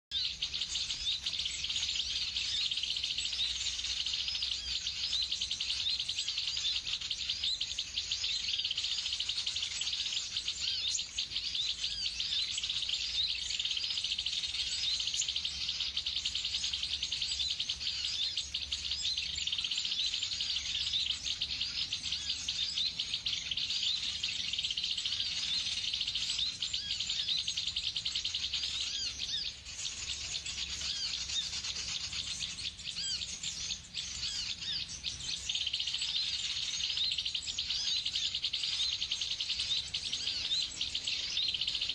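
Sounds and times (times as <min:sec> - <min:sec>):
small birds twittering: 0:00.0 - 0:41.9.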